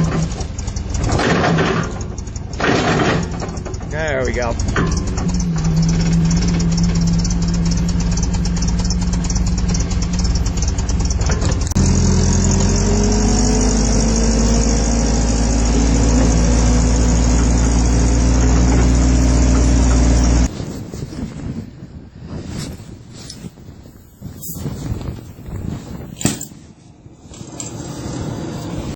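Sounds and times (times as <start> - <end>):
forklift engine running and revving: 0.0 - 22.5, 23.1 - 28.9.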